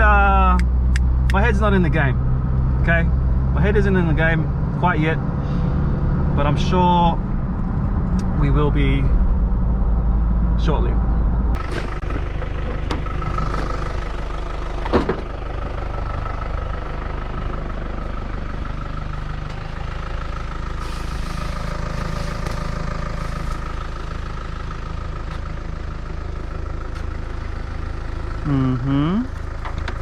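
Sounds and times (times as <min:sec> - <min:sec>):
car driving: 0:00.0 - 0:30.0.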